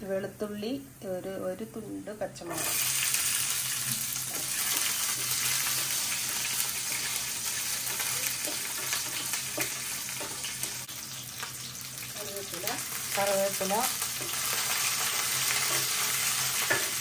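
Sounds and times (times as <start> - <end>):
food sizzling in hot oil: 2.4 - 17.0.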